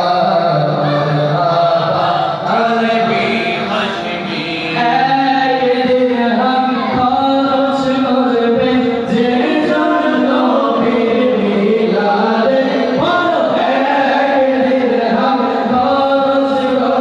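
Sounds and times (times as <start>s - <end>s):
men singing devotional verse: 0.0s - 17.0s.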